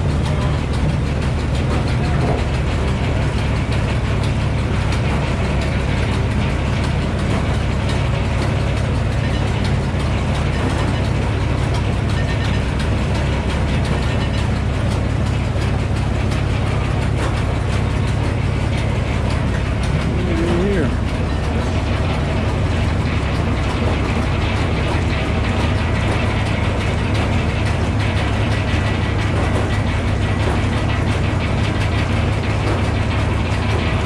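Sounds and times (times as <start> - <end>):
machinery clattering: 0.0 - 34.0
sawmill engine running: 0.0 - 34.0.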